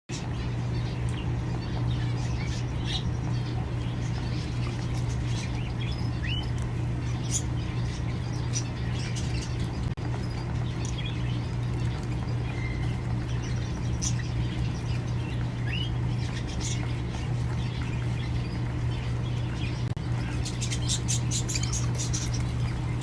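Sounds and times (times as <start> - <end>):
small birds chirping: 0.1 - 23.0
steady low hum: 0.1 - 23.0.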